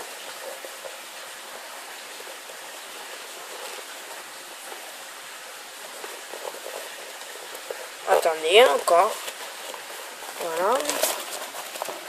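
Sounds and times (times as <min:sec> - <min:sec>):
recording hiss: 0:00.0 - 0:12.0.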